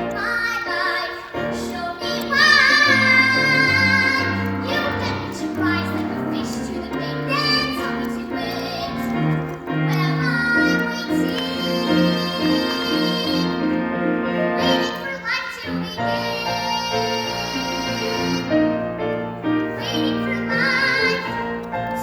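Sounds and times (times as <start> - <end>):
piano accompaniment: 0.0 - 22.0.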